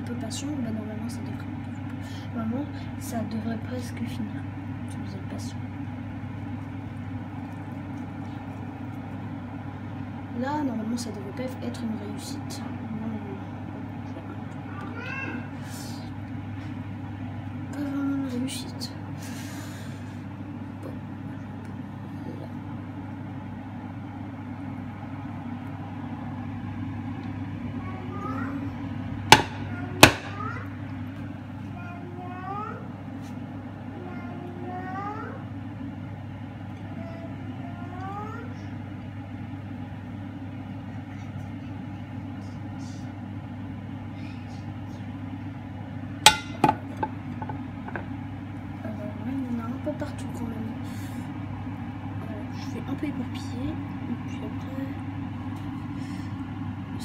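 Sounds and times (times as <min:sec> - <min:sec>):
kitchen appliance humming: 0:00.0 - 0:57.0.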